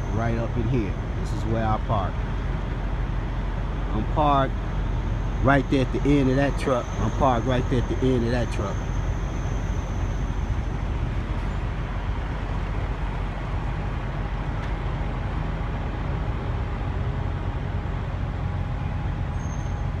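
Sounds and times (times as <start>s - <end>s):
truck engines rumbling: 0.0s - 20.0s.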